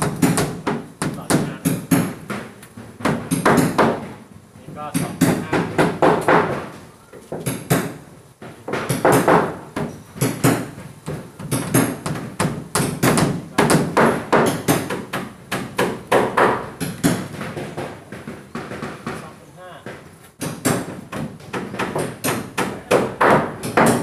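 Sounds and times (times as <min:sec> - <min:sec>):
hammer striking wooden board: 0:00.0 - 0:04.2, 0:04.9 - 0:24.0.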